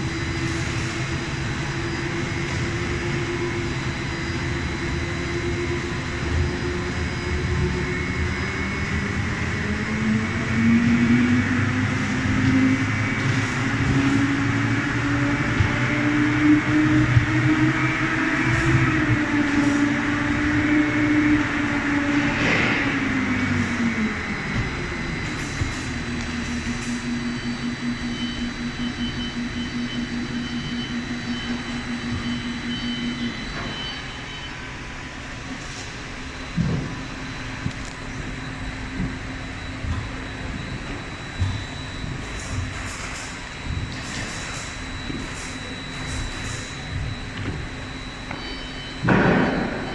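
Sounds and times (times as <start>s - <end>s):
quieter steady machine noise: 0.0s - 49.9s.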